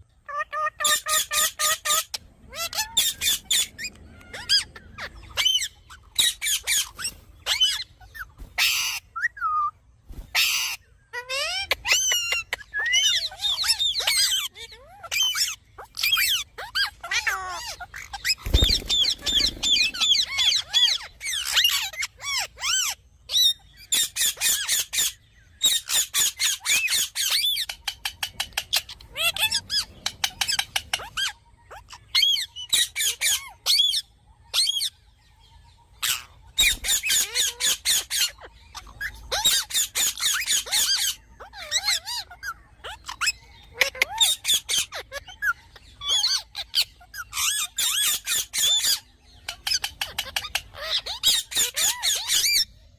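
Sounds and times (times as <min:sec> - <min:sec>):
parakeet chirps and squawks: 0:00.0 - 0:52.9.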